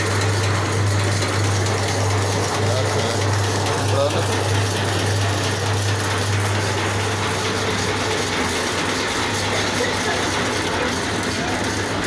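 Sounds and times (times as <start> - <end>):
machine mechanical clatter: 0.0 - 12.0.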